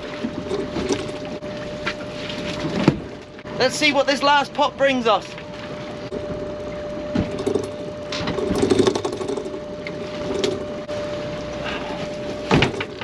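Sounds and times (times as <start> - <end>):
machinery whine and rattle: 0.0 - 13.0.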